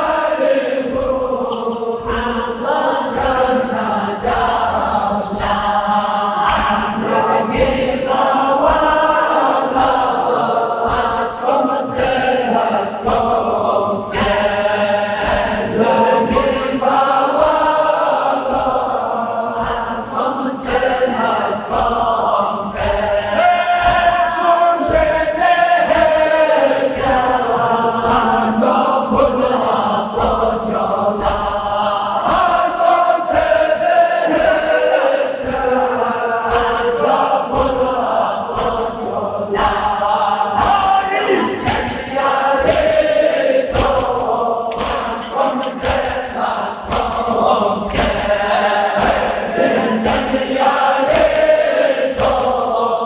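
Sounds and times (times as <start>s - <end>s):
man reciting through microphone: 0.0s - 33.5s, 34.3s - 43.1s, 43.7s - 53.0s
low thumping beat: 0.0s - 53.0s
men chanting a lament: 0.0s - 53.0s.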